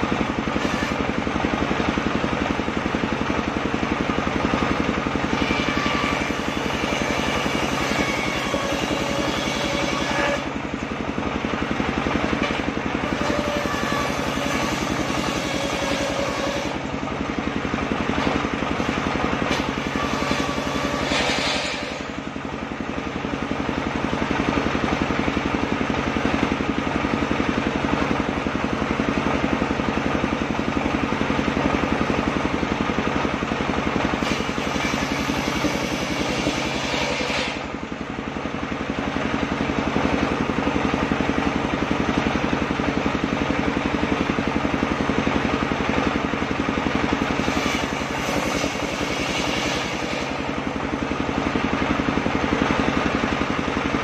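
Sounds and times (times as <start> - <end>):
sawmill machine drone: 0.0 - 54.0.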